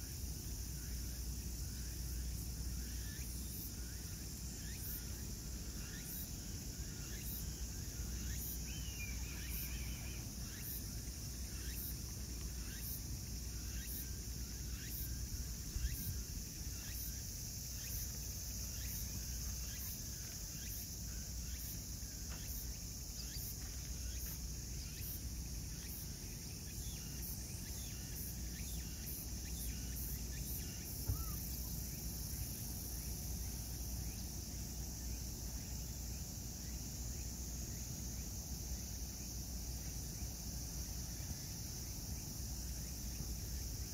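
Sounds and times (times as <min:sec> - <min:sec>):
insect chorus: 0:00.0 - 0:43.9.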